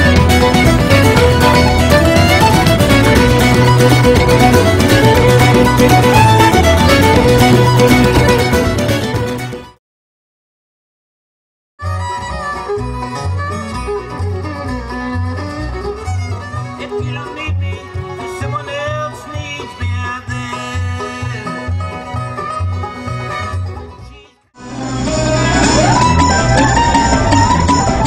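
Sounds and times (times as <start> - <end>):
bluegrass band playing: 0.0 - 9.8, 11.8 - 28.0.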